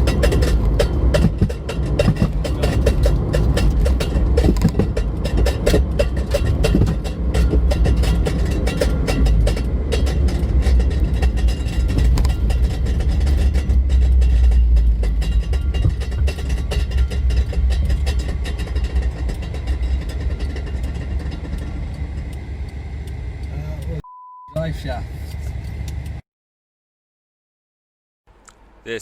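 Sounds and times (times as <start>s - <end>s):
rattling and clattering: 0.0s - 23.9s
vehicle rumbling: 0.0s - 26.2s.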